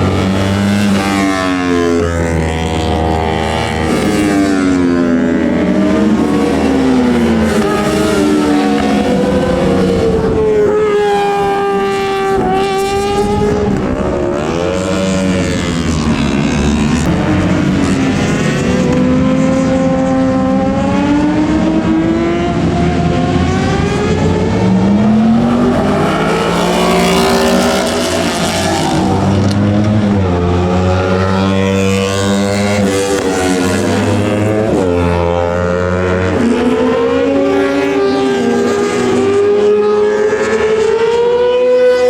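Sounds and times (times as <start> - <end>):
racing motorbike engines: 0.0 - 42.0.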